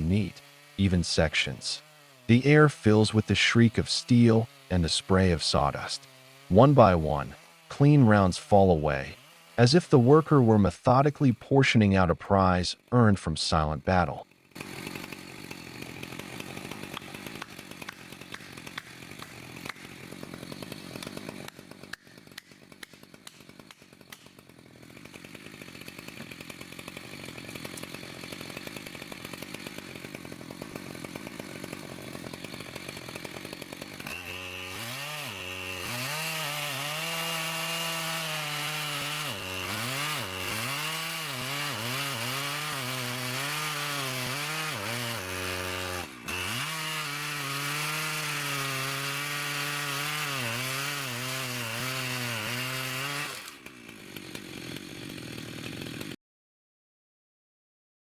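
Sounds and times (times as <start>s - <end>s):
chainsaw cutting log: 0.0s - 56.2s.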